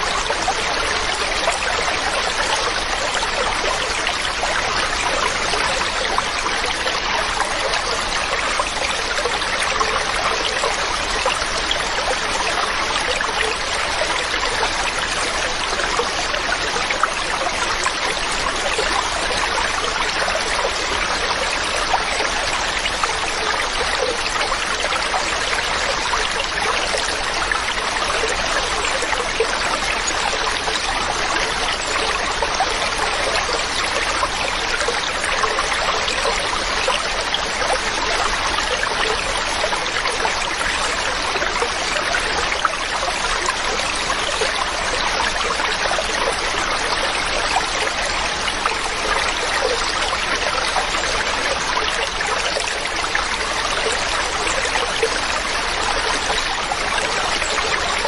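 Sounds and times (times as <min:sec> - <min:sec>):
stream rushing and trickling: 0:00.0 - 0:58.0.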